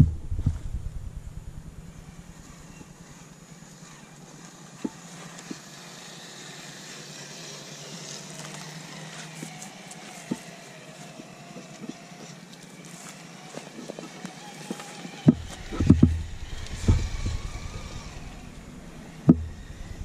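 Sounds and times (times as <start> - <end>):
toy car electric motor whining: 2.0 - 20.0.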